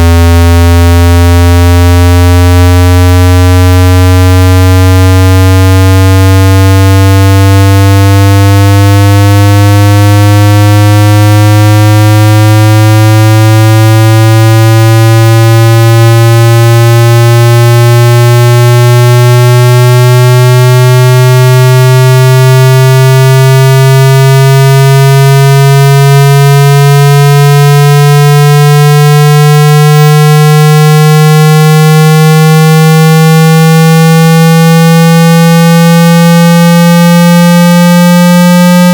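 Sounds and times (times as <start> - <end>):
low buzzing tone rising in pitch: 0.0 - 38.9.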